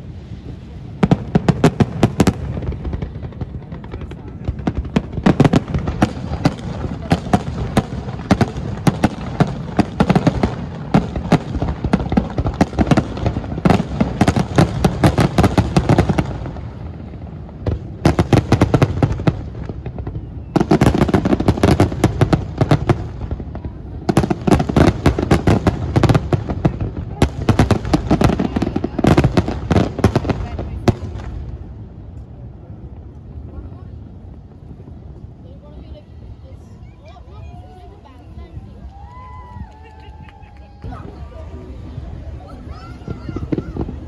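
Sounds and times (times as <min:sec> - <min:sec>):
fireworks banging: 0:00.0 - 0:35.4, 0:37.5 - 0:44.0.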